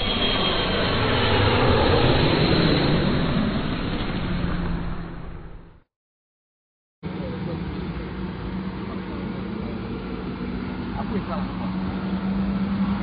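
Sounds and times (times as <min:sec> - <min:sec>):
jet airliner passing overhead: 0:00.0 - 0:05.9, 0:07.0 - 0:13.0.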